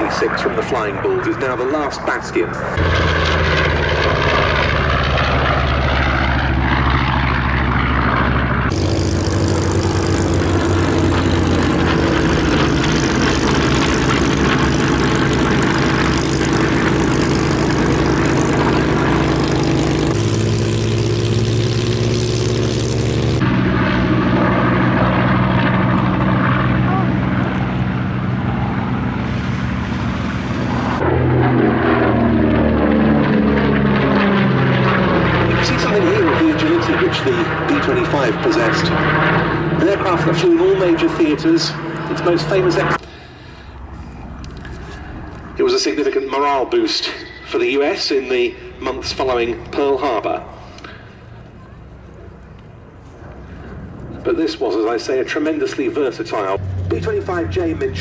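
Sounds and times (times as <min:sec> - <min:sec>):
propeller aircraft engines droning: 0:00.0 - 0:58.0.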